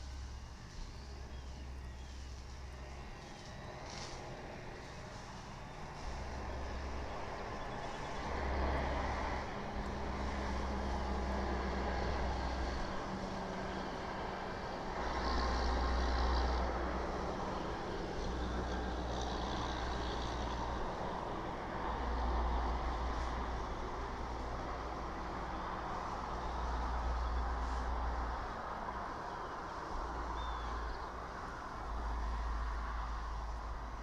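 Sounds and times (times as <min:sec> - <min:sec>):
outdoor background rumble: 0:00.0 - 0:34.0.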